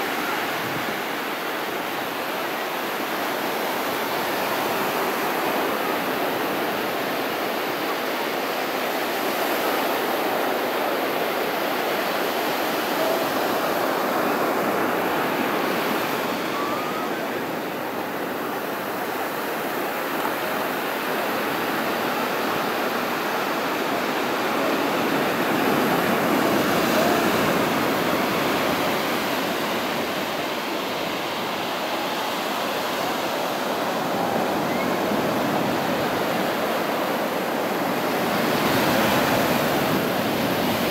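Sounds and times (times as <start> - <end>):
surf breaking on beach: 0.0 - 40.9.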